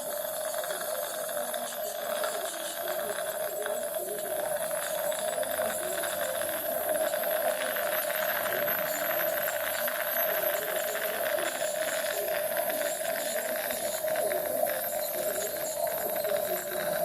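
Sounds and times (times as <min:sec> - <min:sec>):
dental equipment humming and whining: 0:00.0 - 0:17.0.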